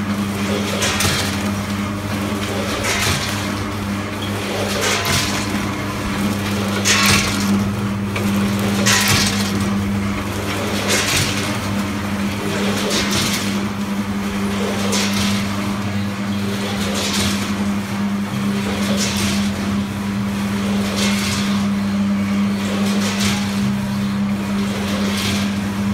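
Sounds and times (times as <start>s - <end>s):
machine mechanical hum: 0.0s - 25.9s.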